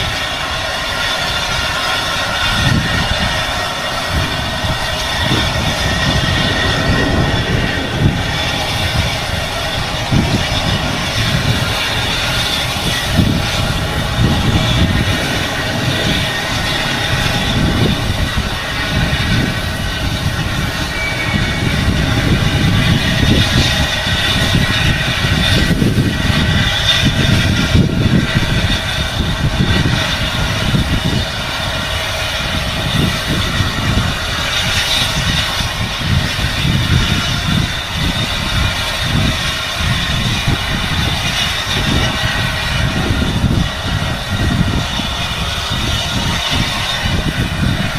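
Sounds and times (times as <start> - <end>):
high whine: 0.0 - 47.9
steam train rumbling: 0.0 - 47.9.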